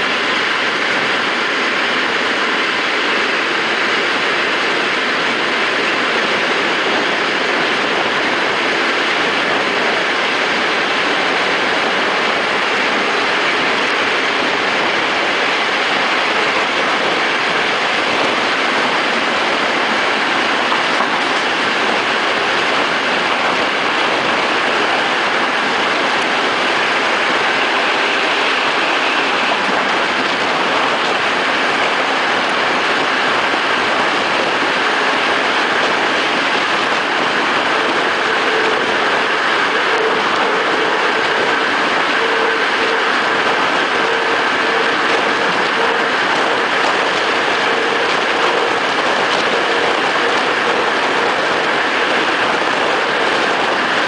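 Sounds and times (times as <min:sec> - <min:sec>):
faint steady whine: 0:00.0 - 0:54.0
train rail running noise: 0:00.0 - 0:54.0
wind rushing: 0:00.0 - 0:54.0.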